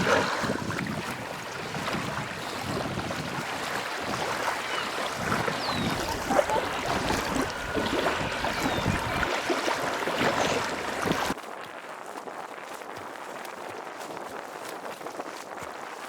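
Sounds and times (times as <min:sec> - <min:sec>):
water lapping around kayak: 0:00.0 - 0:16.0.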